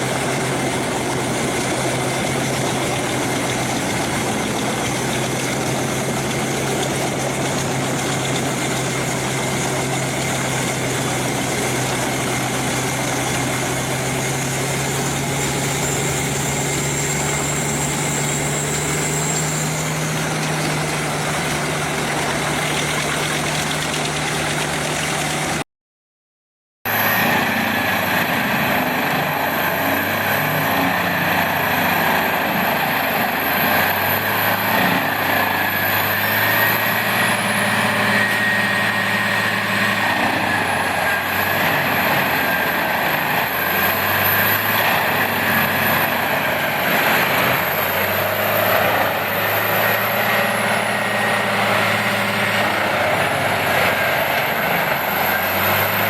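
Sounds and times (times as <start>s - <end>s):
heavy machine engine running: 0.0s - 25.6s, 26.9s - 56.0s.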